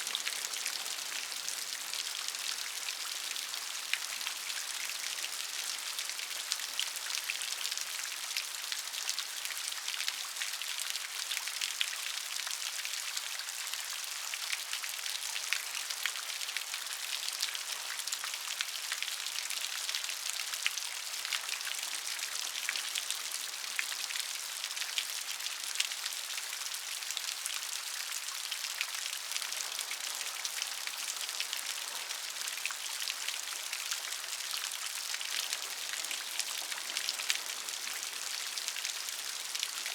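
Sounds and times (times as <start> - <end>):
rain dripping off a roof: 0.0 - 39.9.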